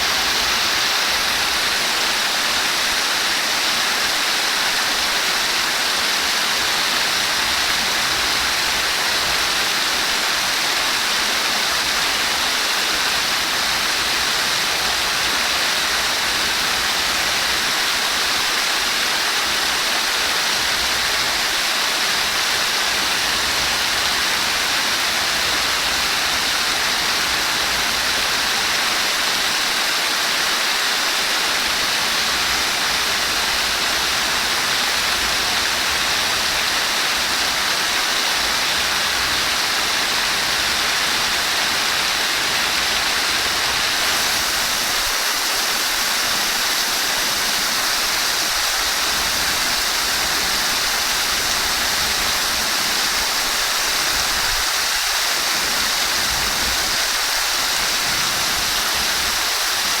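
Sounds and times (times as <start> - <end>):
flowing water rushing: 0.0 - 60.0.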